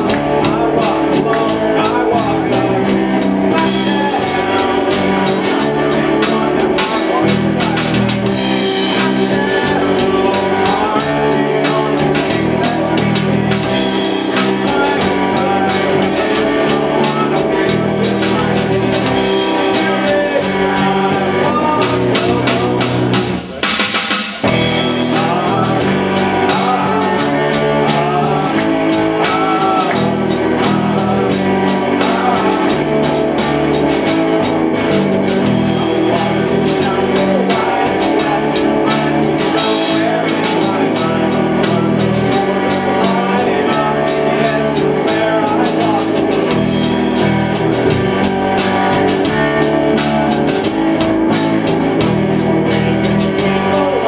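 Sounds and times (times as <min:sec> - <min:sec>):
live rock band playing: 0:00.0 - 0:54.0
person singing: 0:00.0 - 0:54.0.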